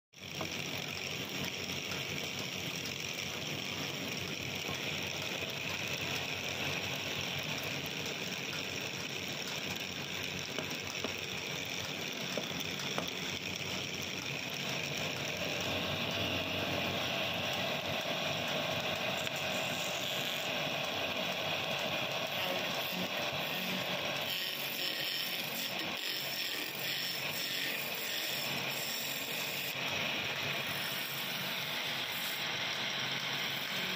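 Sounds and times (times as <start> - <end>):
wood lathe whirring and rattling: 0.2 - 33.9.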